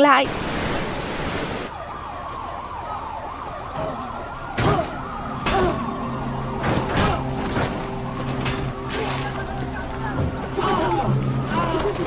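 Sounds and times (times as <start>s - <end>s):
fire engine sirens wailing: 1.4s - 12.0s.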